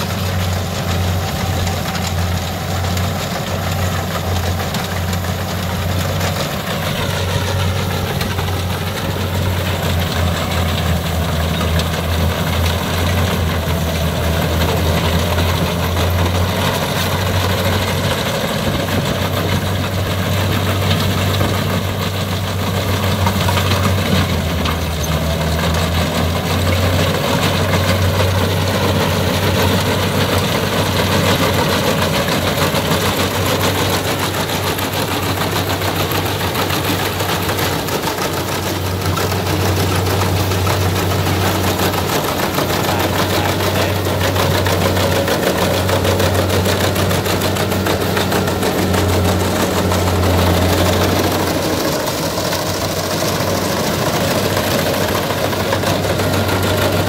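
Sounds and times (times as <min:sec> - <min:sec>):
combine harvester engine drone: 0:00.0 - 0:57.0
threshing works whirring and rattling: 0:00.0 - 0:57.0.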